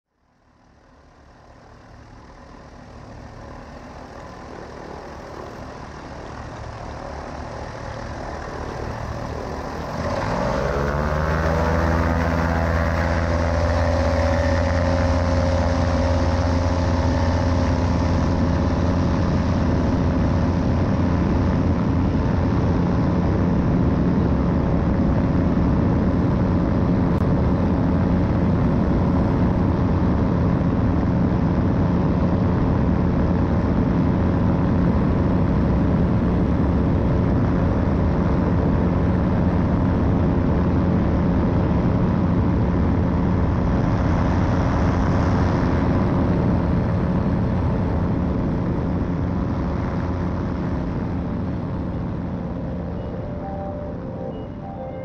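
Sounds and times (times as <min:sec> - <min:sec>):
trike engine and propeller: 0:00.1 - 0:55.0.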